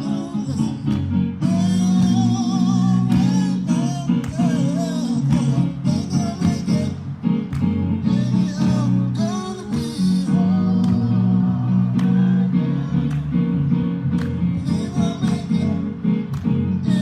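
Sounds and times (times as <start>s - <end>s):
gospel song with guitar: 0.0s - 17.0s.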